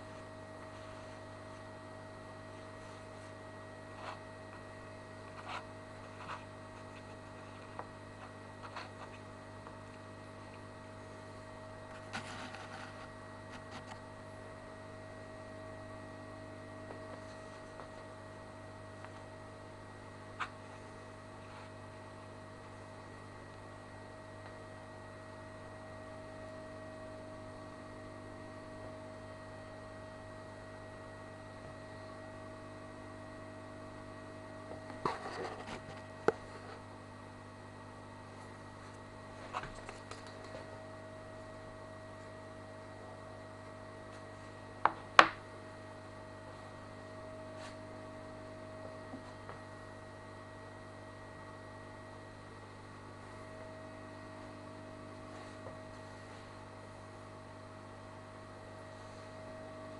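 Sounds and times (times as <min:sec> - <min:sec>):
aquarium filter pump humming: 0:00.0 - 0:59.9.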